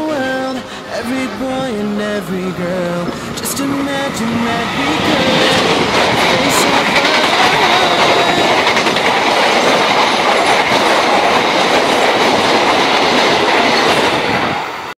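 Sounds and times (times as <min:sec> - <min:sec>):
train coaches passing: 0:00.0 - 0:15.0
wheels clicking over rail joints: 0:01.2 - 0:14.6.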